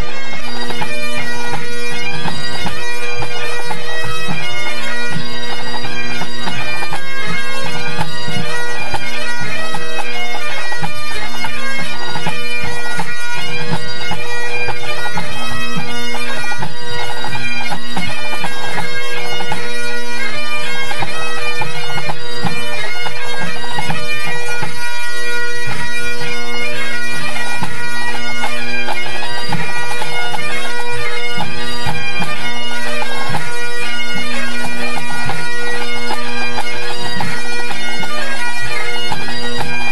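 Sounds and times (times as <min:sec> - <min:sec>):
bagpipes playing: 0:00.0 - 0:39.9.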